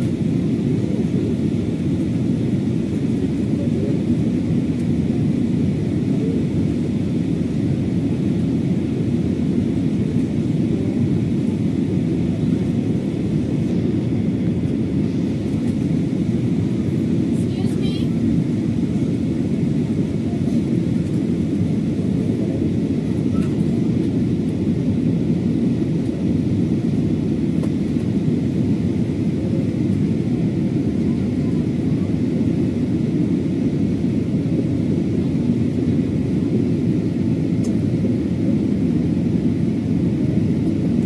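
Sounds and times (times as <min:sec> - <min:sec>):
jet cabin engine rumble: 0:00.0 - 0:41.0.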